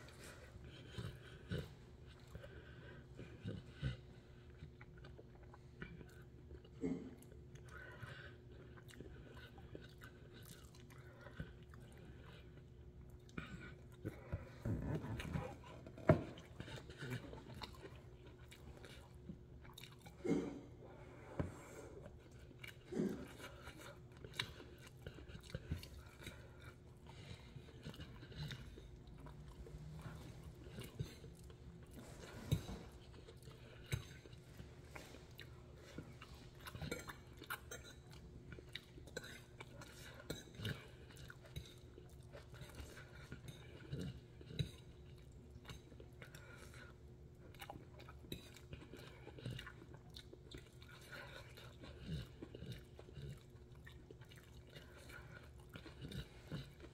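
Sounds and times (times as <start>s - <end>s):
chewing noodles: 0.0s - 56.9s.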